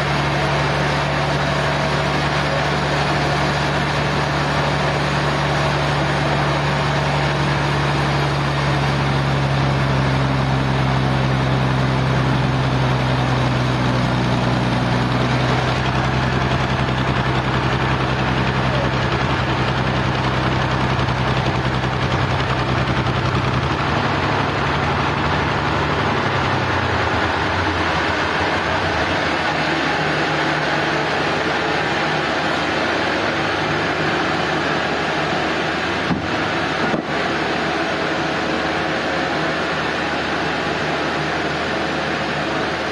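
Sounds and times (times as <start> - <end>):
noisy wash: 0.0 - 42.9
sawmill machinery humming: 0.0 - 42.9.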